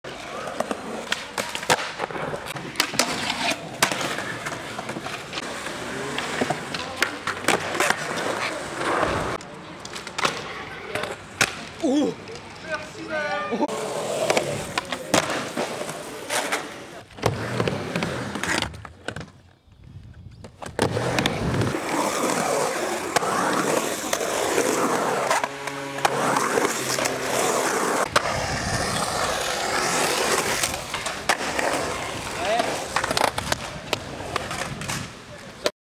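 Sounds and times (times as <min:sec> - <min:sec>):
skateboard wheels rolling on concrete: 0:00.0 - 0:35.7.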